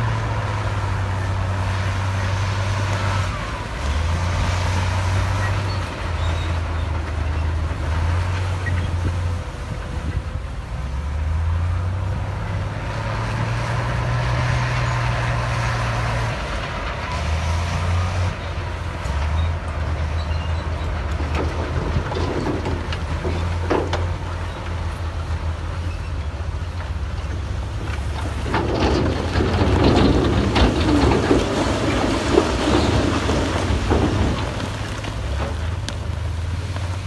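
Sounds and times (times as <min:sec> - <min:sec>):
diesel machinery engine drone: 0:00.0 - 0:37.0.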